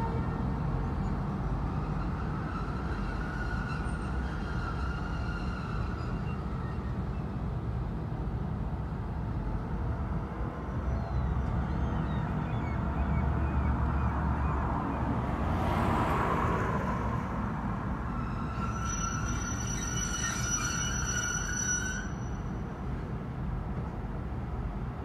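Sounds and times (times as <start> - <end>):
locomotive engine rumbling: 0.0 - 15.6, 16.9 - 25.0.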